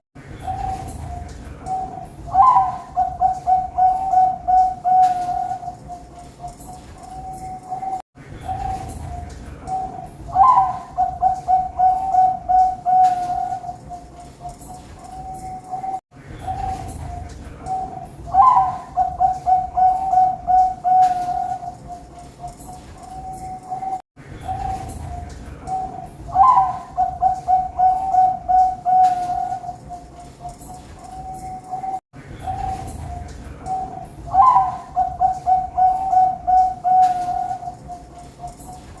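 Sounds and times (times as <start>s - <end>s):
dove cooing: 0.4s - 39.0s.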